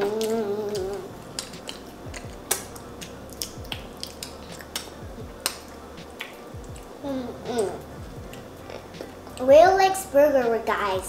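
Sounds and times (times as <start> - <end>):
children chewing with lip smacks: 0.0 - 9.5.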